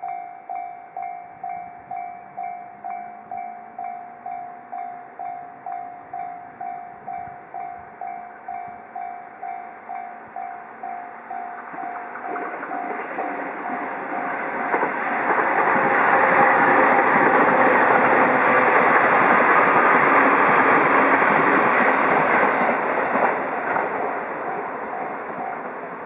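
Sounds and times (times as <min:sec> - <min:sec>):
level crossing warning bell: 0:00.0 - 0:26.0
train passing: 0:00.0 - 0:26.0.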